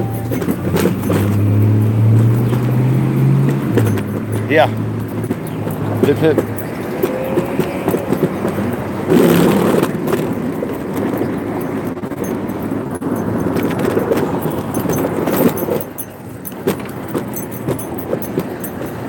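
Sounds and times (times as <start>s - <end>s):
city street traffic: 0.0s - 19.0s
metallic clicks and jingles: 0.0s - 19.0s
wheels rattling over concrete: 0.0s - 19.0s.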